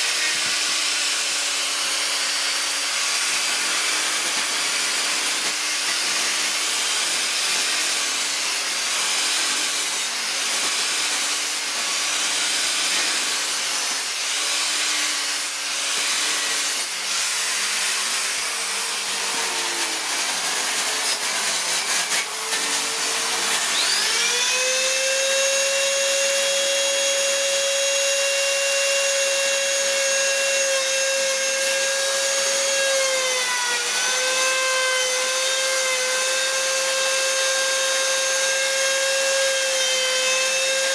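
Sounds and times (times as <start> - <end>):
die grinder high whine: 0.0 - 40.9.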